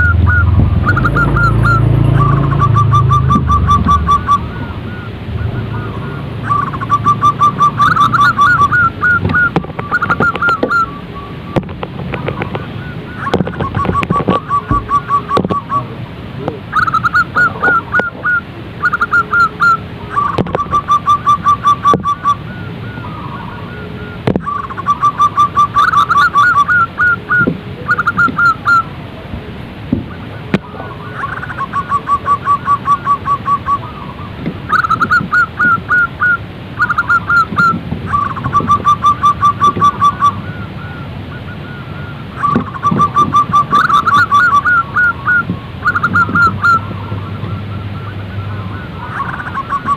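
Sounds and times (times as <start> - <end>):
high chirps of small birds: 0.0 - 29.0, 30.0 - 49.9
doves cooing and trilling: 0.0 - 49.9.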